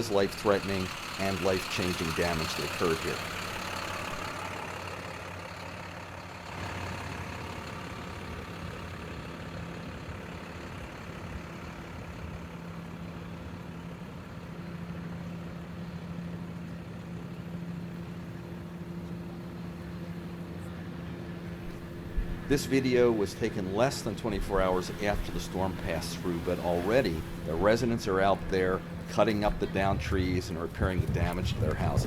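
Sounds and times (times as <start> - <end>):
engine idling hum: 0.0 - 32.0.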